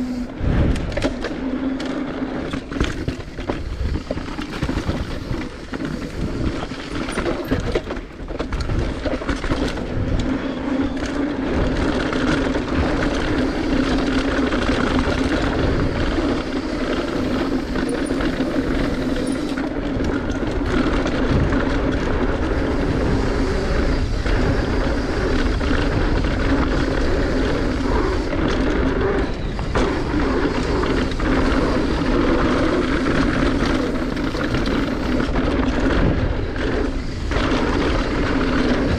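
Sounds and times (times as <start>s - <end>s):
bike rattling: 0.0s - 38.9s
tyres rolling over dirt: 0.0s - 38.9s
wind rumbling on microphone: 0.0s - 38.9s.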